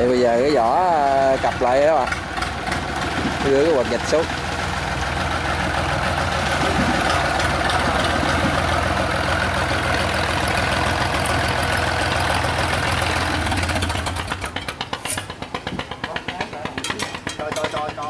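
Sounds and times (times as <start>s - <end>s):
boat engine running at low revs: 0.6s - 16.8s.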